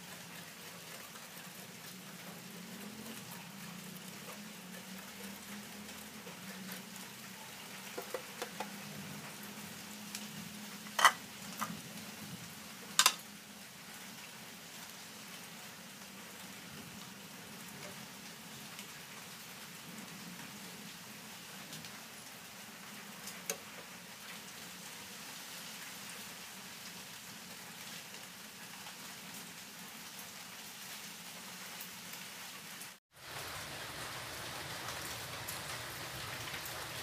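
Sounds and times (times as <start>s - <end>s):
egg frying sizzle: 0.0s - 37.0s.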